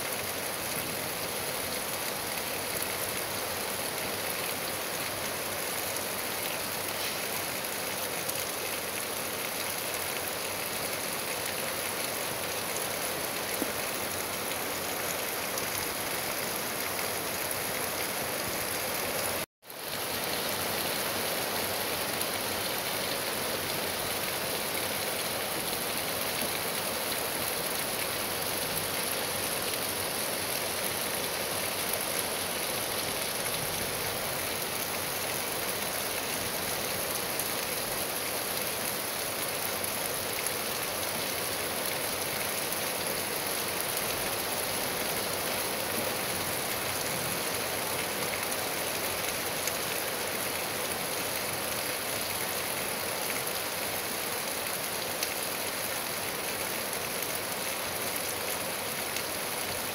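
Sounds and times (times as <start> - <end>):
rain on trees and grass: 0.0 - 59.9.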